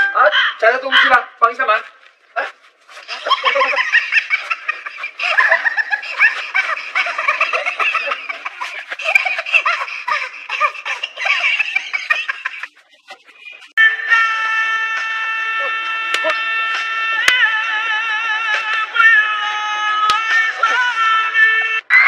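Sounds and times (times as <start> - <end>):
high-pitched laughter: 2.9 - 22.0.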